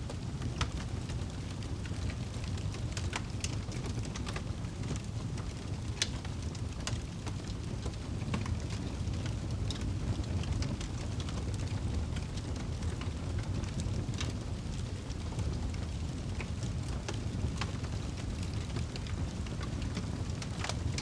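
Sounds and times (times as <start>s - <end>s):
fire crackles and pops: 0.0s - 21.0s
fire low rumble: 0.0s - 21.0s.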